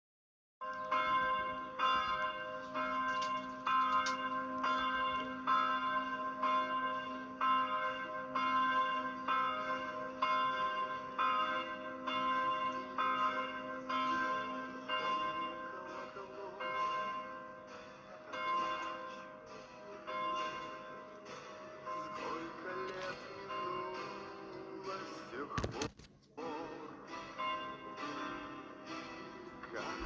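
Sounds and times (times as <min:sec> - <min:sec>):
bell tolling: 0:00.6 - 0:25.6.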